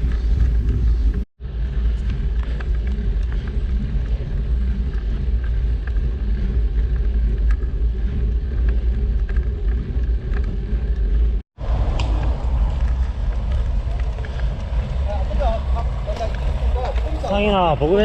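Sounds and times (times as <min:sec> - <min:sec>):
wind and road noise rumble: 0:00.0 - 0:18.0.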